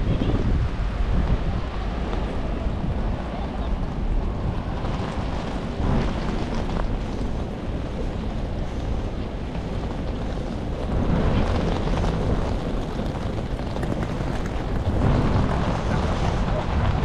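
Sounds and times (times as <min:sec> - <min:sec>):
wind buffeting microphone: 0:00.0 - 0:17.0
rain on wet paving: 0:02.9 - 0:17.0.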